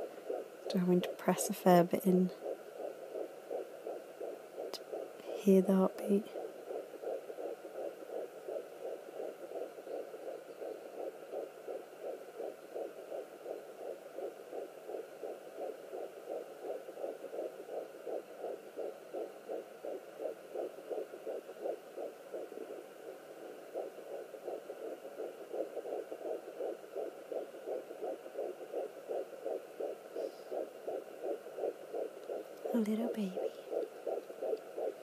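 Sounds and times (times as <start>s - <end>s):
fetal heartbeat whooshing pulse: 0.0s - 35.0s
steady hum: 0.0s - 35.0s.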